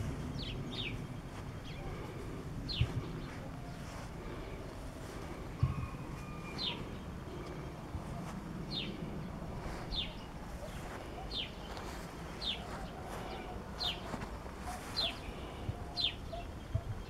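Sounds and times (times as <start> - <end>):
low outdoor rumble: 0.0 - 17.0
small bird calling: 0.3 - 17.0.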